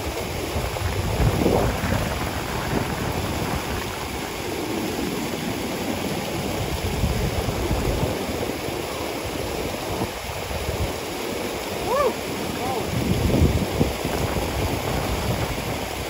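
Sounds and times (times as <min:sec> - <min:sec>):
water pouring over waterfall: 0:00.0 - 0:16.0.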